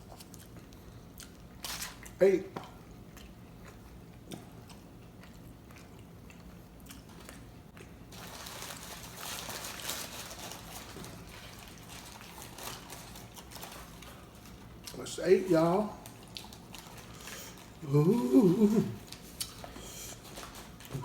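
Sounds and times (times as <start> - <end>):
person chewing crunchy taco: 0.0 - 15.0, 16.0 - 21.0.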